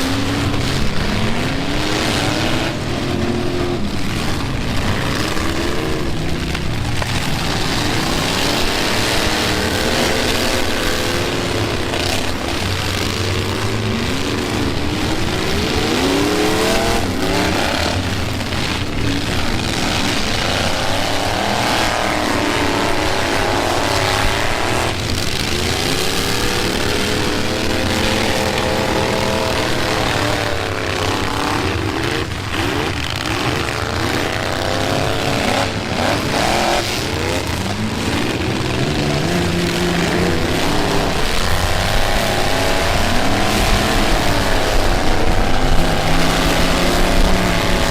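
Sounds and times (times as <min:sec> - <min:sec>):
truck engines revving: 0:00.0 - 0:47.9.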